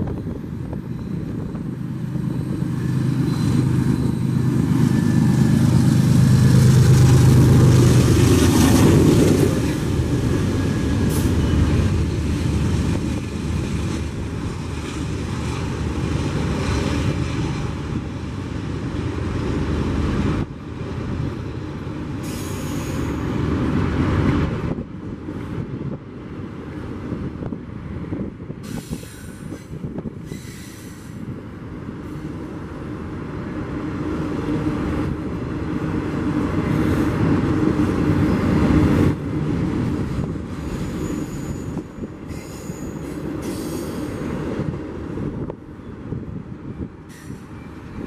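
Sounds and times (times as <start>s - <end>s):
diesel locomotive engine hum: 0.0s - 48.0s.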